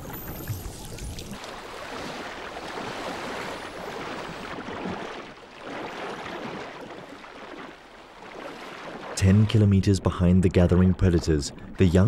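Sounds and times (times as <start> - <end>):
sea water splashing and rushing: 0.0 - 12.0.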